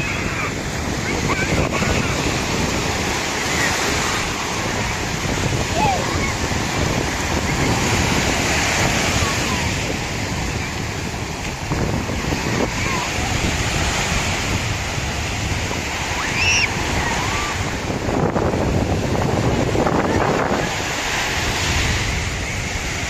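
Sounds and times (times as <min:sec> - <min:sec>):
sea waves breaking: 0:00.0 - 0:23.0.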